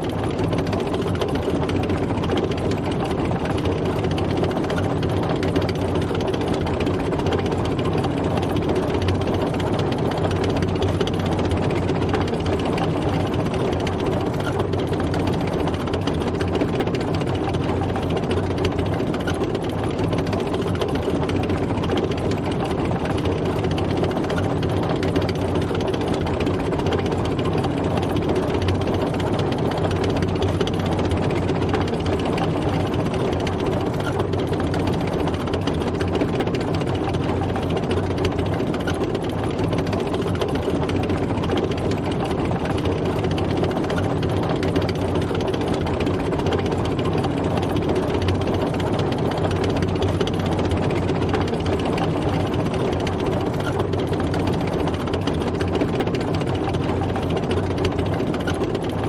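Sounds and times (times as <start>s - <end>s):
tank engine running: 0.0s - 59.0s.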